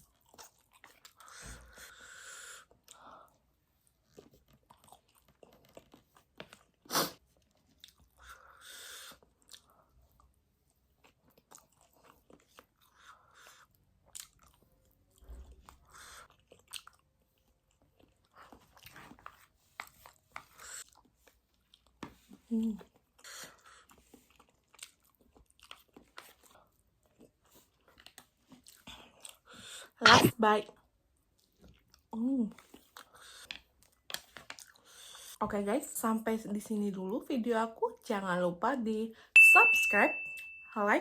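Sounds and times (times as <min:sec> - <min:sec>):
wet chewing and mouth noises: 0:00.0 - 0:35.4.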